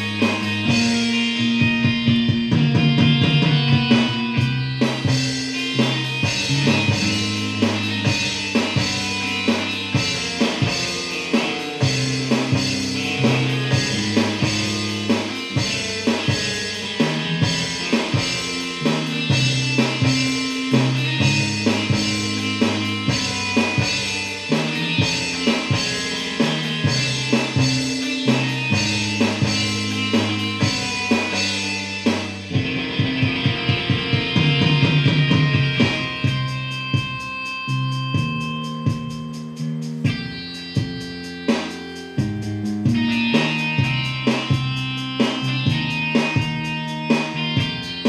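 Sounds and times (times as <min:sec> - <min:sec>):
bass notes: 0:00.0 - 0:48.0
drum kit beat: 0:00.0 - 0:48.0
guitar: 0:00.0 - 0:48.0.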